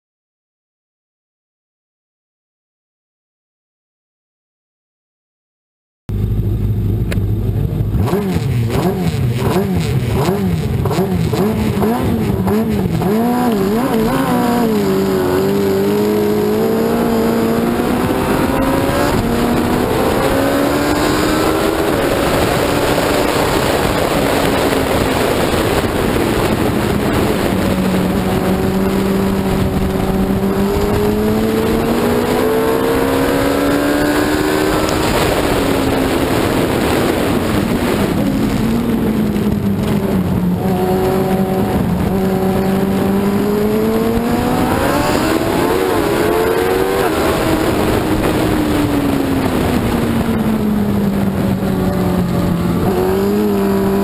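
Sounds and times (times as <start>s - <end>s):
motorcycle engine revving: 6.1s - 54.0s.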